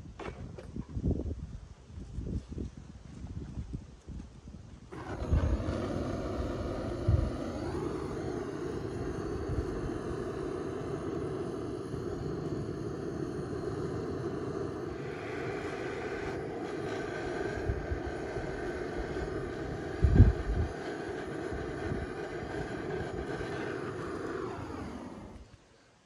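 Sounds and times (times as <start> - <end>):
butane torch hissing: 4.9 - 25.9.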